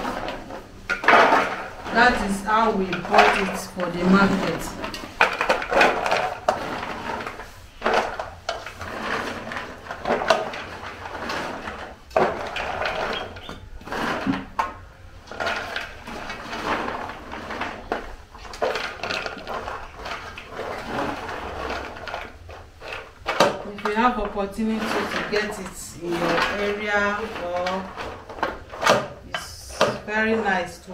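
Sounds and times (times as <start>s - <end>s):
beans rattling in metal trays: 0.0s - 30.9s.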